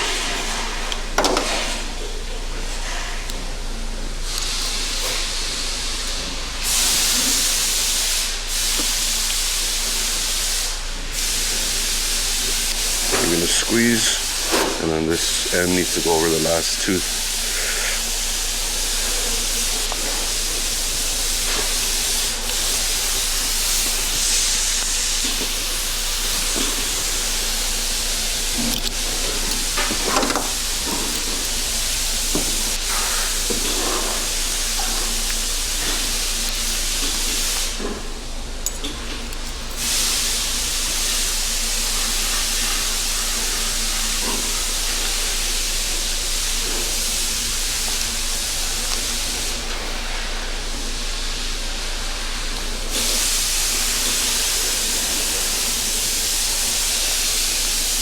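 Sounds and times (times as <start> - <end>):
steady loud hiss: 0.0 - 58.0.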